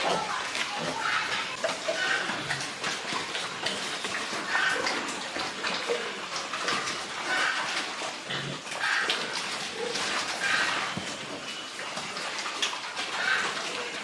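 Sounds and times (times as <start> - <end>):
pigs grunting: 0.0 - 14.0
water splashing and running: 0.0 - 14.0.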